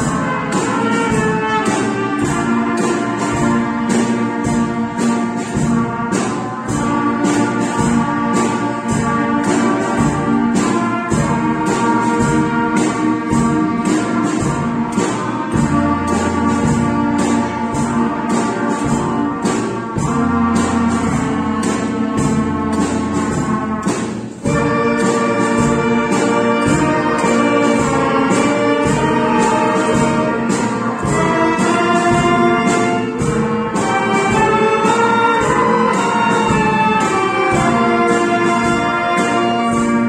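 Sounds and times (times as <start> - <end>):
classical guitars: 0.0 - 40.0
trumpets: 0.0 - 40.0.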